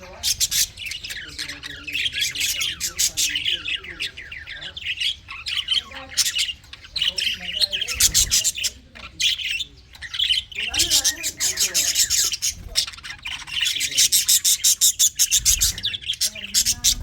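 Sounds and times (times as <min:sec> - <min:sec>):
budgerigars chattering and squawking: 0:00.0 - 0:17.0.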